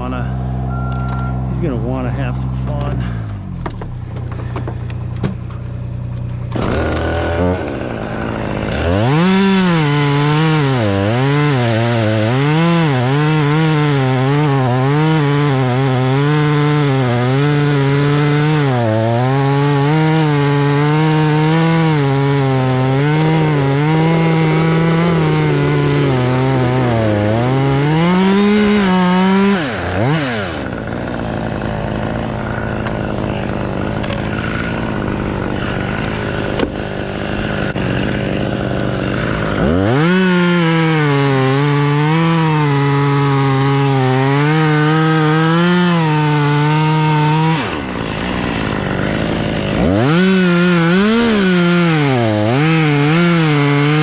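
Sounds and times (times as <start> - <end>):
chainsaw cutting into tree trunk: 2.7 - 54.0.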